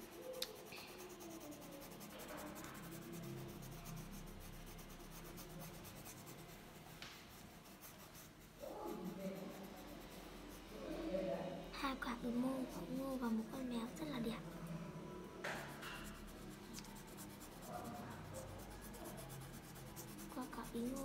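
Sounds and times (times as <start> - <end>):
pen scratching on paper: 0.0 - 11.1, 11.9 - 14.6, 15.5 - 21.0.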